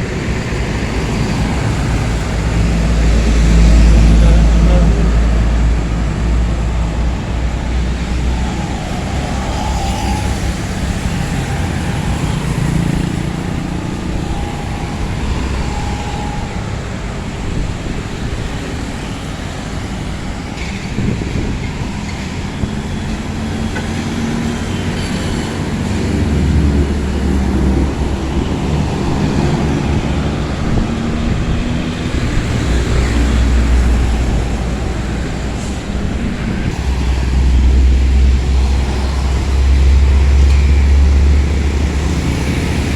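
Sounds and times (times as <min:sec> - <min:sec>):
road noise: 0:00.0 - 0:42.9.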